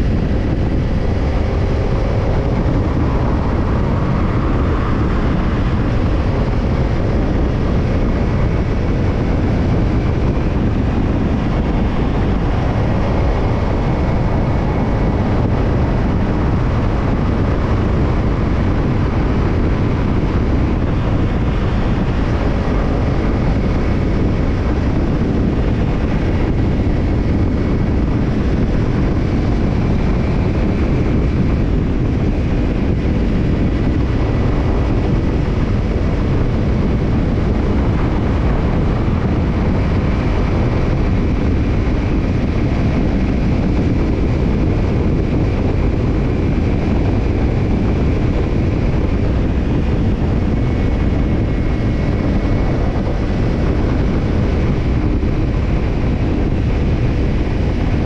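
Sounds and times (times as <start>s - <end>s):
motorcycle engine deep rumble: 0.0s - 58.0s
wind noise on microphone: 0.0s - 58.0s.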